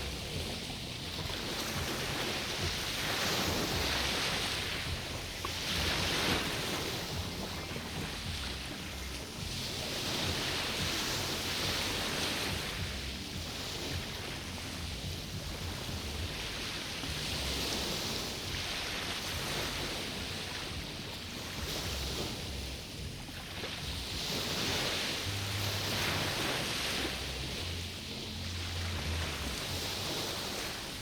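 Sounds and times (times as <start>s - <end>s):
low rumble: 0.0s - 31.0s
small waves breaking on beach: 0.0s - 31.0s.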